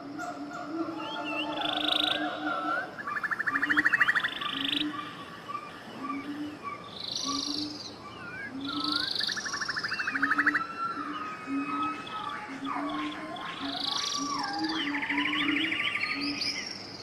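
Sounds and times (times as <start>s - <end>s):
bird-like chirps: 0.0s - 17.0s
frogs croaking: 0.0s - 17.0s
frogs trilling: 0.0s - 17.0s.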